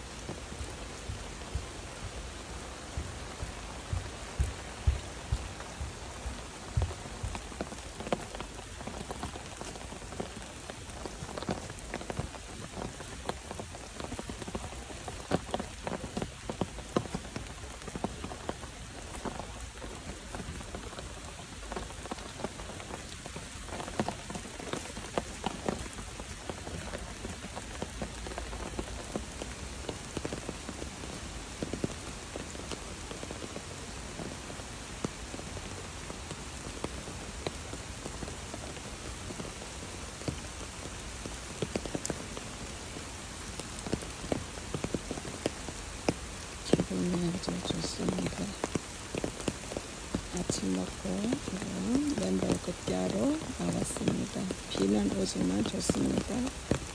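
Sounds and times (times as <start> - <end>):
sharp taps of raindrops: 0.0 - 56.9
steady rain falling: 0.0 - 56.9.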